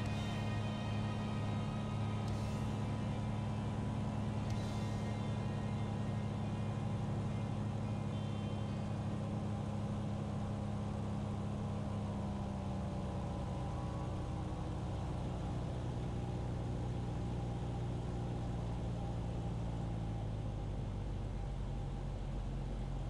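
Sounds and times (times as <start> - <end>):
aircraft propeller engines droning: 0.0 - 23.0.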